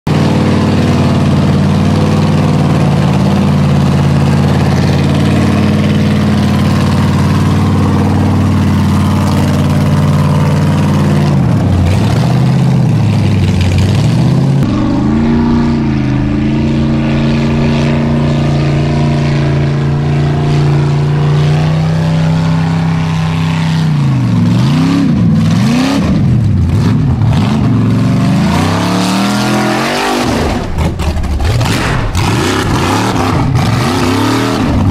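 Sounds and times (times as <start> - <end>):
buggy engine idling and revving: 0.0 - 34.9.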